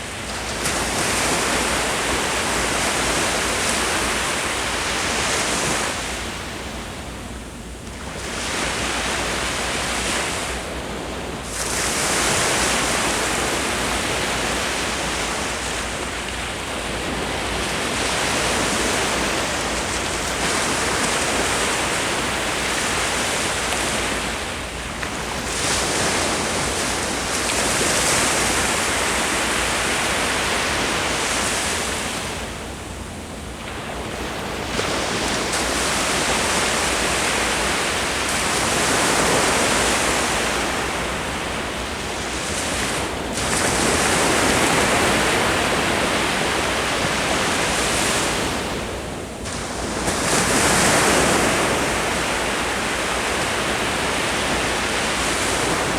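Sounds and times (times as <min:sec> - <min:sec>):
sea waves breaking on beach: 0:00.0 - 0:07.1, 0:07.9 - 0:55.9.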